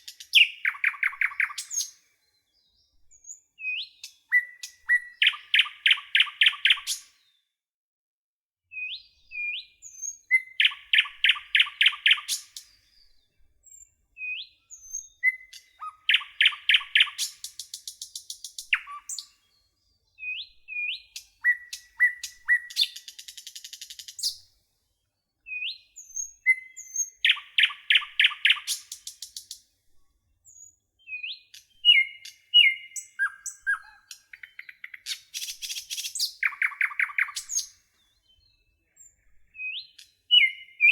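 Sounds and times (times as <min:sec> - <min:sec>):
nightingale singing: 0:00.0 - 0:07.2, 0:08.7 - 0:24.5, 0:25.4 - 0:29.6, 0:30.5 - 0:40.9.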